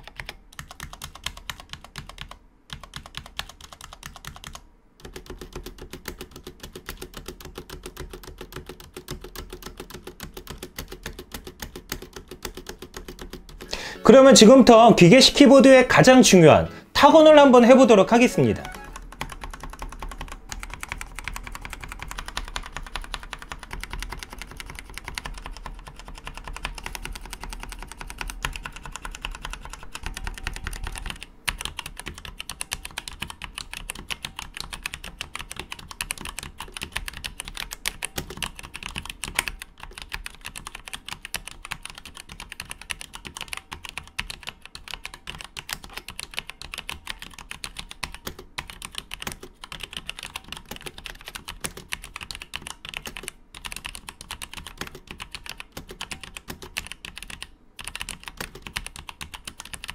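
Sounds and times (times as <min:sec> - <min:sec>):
mechanical keyboard typing: 0:00.0 - 0:14.4, 0:17.3 - 0:59.9.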